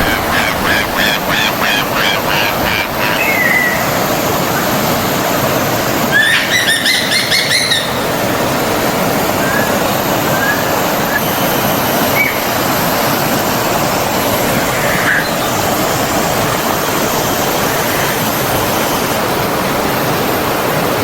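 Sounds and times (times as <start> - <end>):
stream of water running: 0.0 - 21.0.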